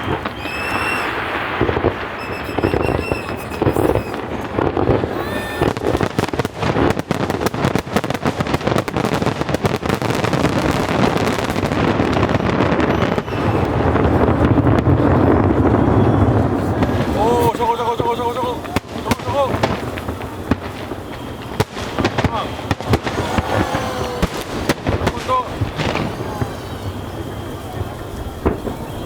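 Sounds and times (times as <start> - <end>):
firework whistles: 0.0 - 29.0
fireworks bangs and crackles: 0.0 - 29.0.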